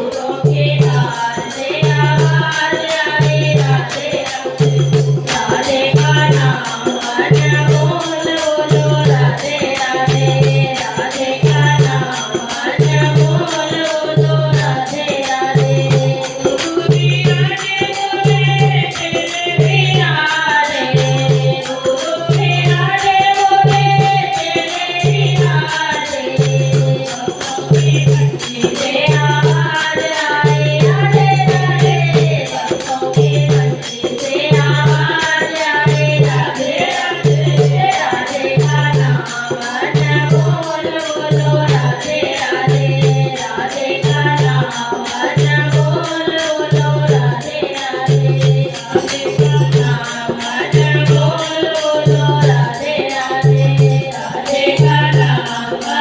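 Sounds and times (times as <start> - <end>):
voices singing devotional song: 0.0 - 56.0.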